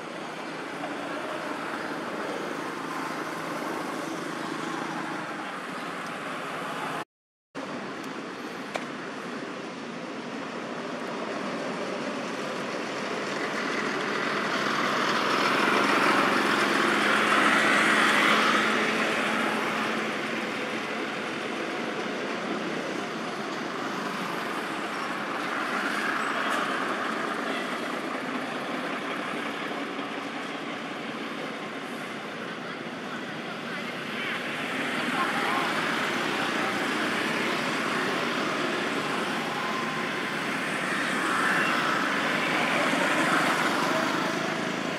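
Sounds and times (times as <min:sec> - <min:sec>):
road traffic: 0:00.0 - 0:44.9.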